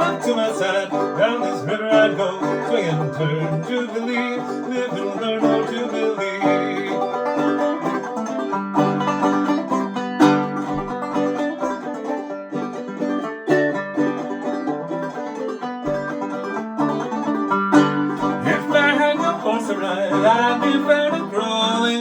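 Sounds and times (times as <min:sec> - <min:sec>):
banjo plucking and strumming: 0:00.0 - 0:22.0.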